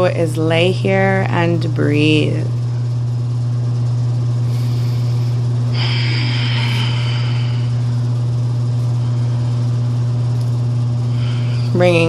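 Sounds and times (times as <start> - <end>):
loud low hum: 0.0 - 12.0.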